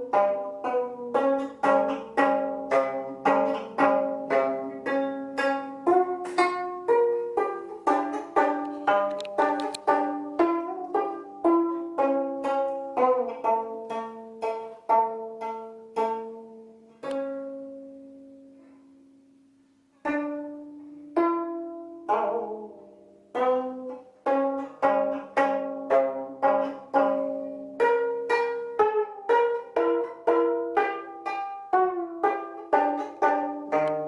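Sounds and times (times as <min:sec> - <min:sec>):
plucked zither: 0:00.0 - 0:19.2, 0:20.0 - 0:34.0.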